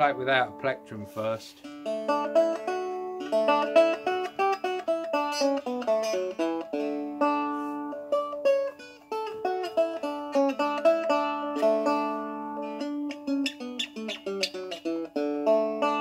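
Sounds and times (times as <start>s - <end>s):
plucked dulcimer melody: 0.0s - 16.0s.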